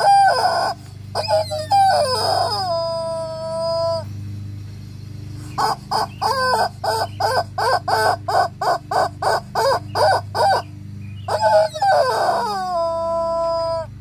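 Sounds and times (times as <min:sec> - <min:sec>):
rubber chicken toy squawking: 0:00.0 - 0:04.0, 0:05.6 - 0:10.7, 0:11.3 - 0:14.0.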